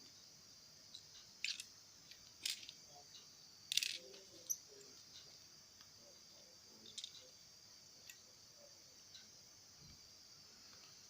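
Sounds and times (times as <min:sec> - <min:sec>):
high hiss: 0:00.0 - 0:11.0.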